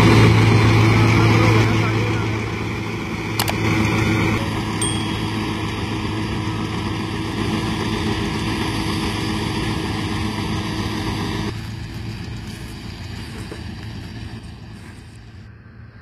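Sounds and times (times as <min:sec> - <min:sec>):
tractor engine hum: 0:00.0 - 0:16.0.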